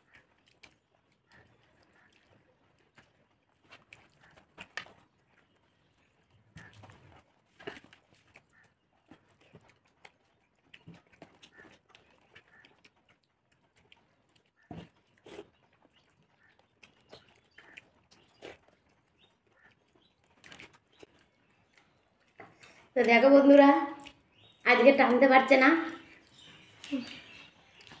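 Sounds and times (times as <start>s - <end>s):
chewing smacks: 0.0s - 22.9s, 24.0s - 24.6s, 26.0s - 28.0s.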